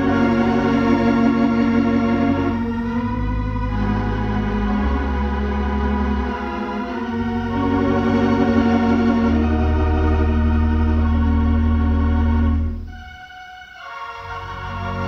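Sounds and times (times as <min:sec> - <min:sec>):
deep organ pedal bass notes: 0:00.0 - 0:15.0
theatre organ sustained chords: 0:00.0 - 0:15.0.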